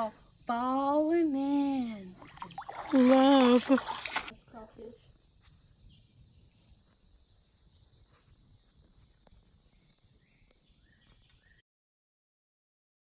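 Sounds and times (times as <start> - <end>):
insects droning: 0.0 - 11.6.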